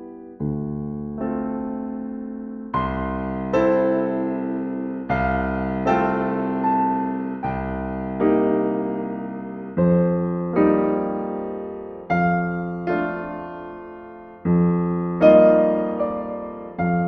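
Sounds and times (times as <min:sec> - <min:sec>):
gentle solo piano: 0:00.0 - 0:17.0.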